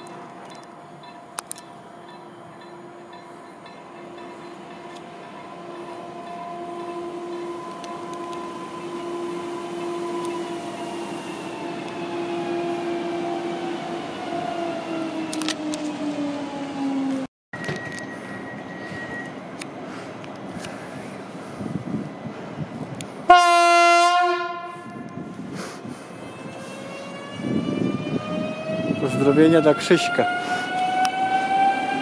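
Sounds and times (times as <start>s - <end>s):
electric train traction whine: 0.0s - 23.5s, 26.1s - 32.0s.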